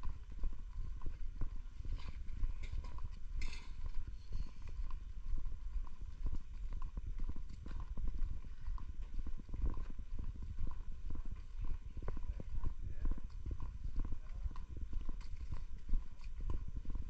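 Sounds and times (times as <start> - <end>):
low wind rumble on microphone: 0.0 - 17.0
walking footsteps: 0.0 - 17.0.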